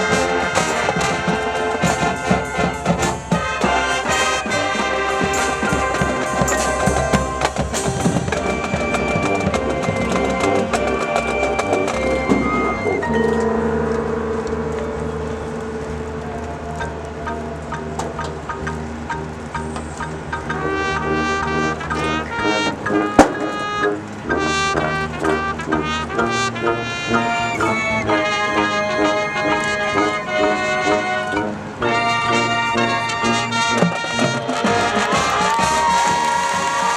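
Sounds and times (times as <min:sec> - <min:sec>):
rapid percussion hits: 0:00.0 - 0:26.6, 0:33.7 - 0:36.9
marching band playing: 0:00.0 - 0:36.9.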